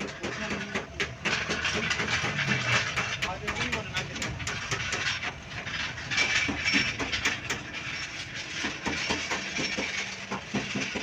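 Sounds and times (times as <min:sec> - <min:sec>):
sharp clicks and knocks: 0:00.0 - 0:11.0.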